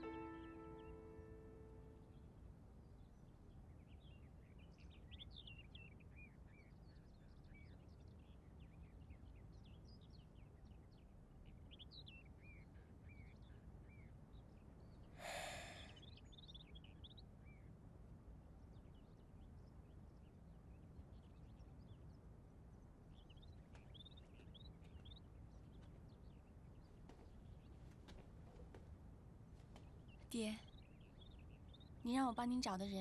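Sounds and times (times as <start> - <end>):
low steady background hum: 0.0 - 33.0
small birds chirping: 2.8 - 33.0.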